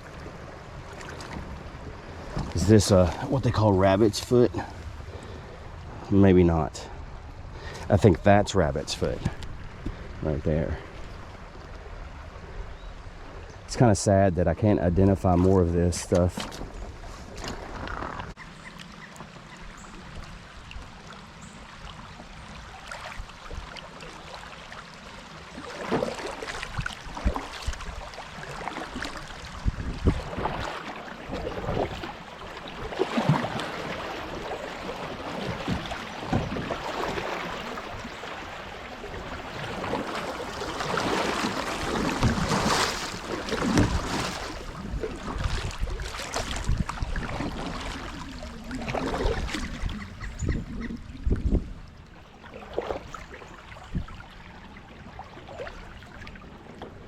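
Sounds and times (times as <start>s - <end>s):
water splashes: 0.0s - 7.0s, 13.2s - 57.0s
creek water sloshing: 0.0s - 57.0s.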